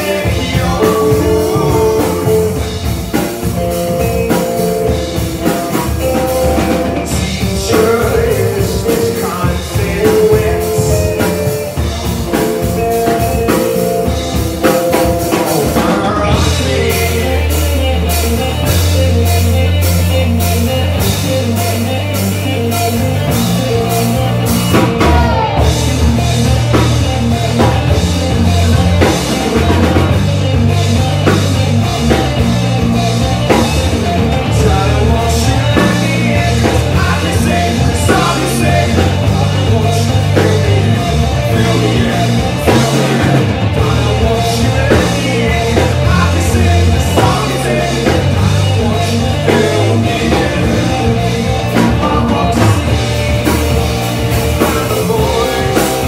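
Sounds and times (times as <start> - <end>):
bass guitar: 0.0 - 56.0
drum kit hits: 0.0 - 56.0
electric guitars: 0.0 - 56.0.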